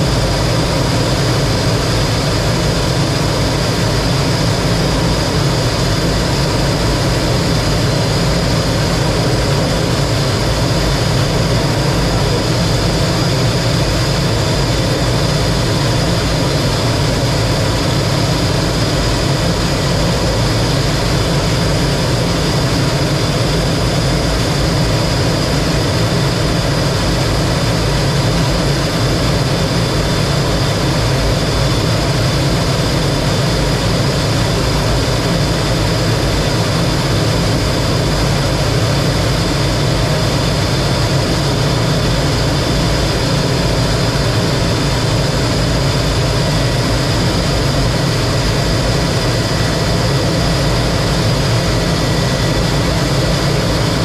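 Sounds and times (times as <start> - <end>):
jet engine whine and rumble: 0.0 - 54.0.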